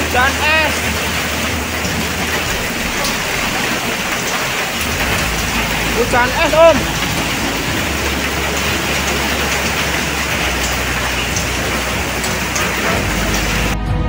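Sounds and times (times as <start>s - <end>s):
heavy rain with hail on paving: 0.0s - 13.8s.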